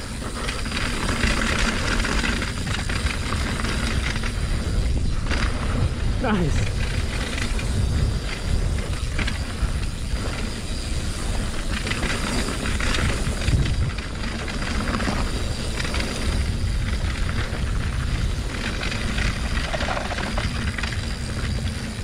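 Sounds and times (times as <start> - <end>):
bike rattling over bumps: 0.0 - 22.0
tyres rumbling on dirt trail: 0.0 - 22.0.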